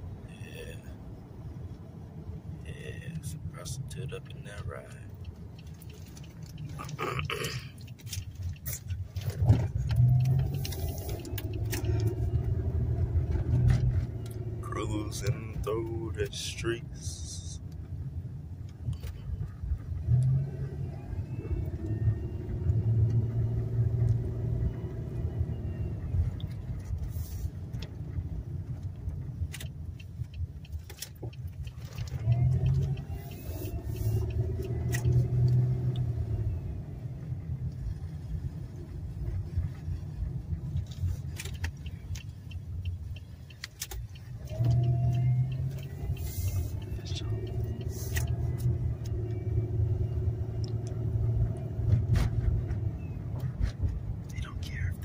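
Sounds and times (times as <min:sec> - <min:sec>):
car engine: 0:00.0 - 0:55.0
road rumble: 0:00.0 - 0:55.0.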